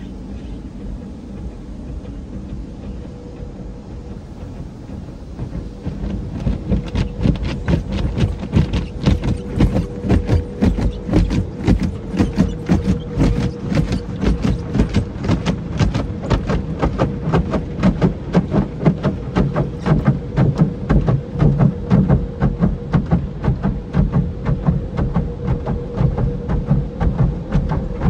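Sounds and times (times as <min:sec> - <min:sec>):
machinery hum: 0:00.0 - 0:28.0
car wash brushes slapping car: 0:05.5 - 0:28.0.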